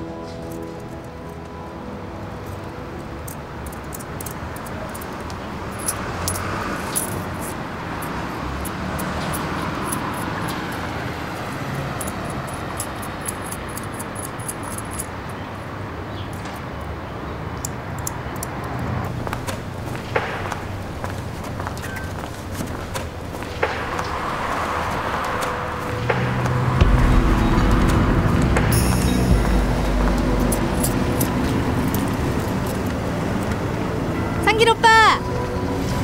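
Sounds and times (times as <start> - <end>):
street and traffic noise: 0.0 - 36.0.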